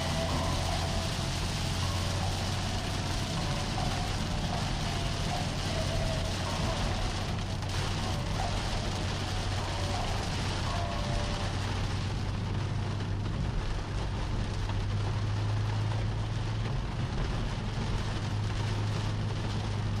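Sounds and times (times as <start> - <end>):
engine and road noise hum: 0.0 - 20.0
rain on a car: 0.0 - 20.0.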